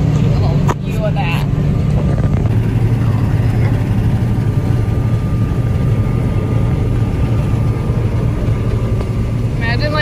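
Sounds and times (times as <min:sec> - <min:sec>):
combine harvester engine drone: 0:00.0 - 0:10.0
faint steady whine: 0:00.0 - 0:10.0.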